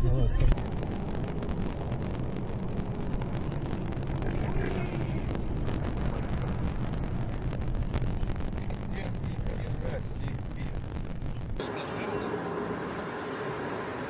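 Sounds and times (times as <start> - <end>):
car road and engine noise: 0.1 - 14.0.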